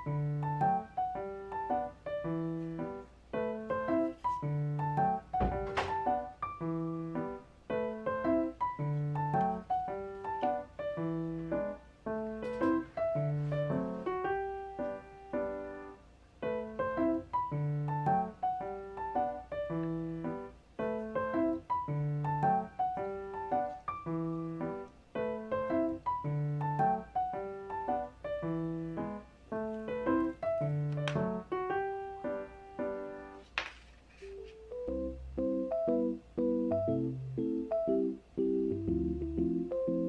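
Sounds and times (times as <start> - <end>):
light piano keyboard tune: 0.0 - 40.0.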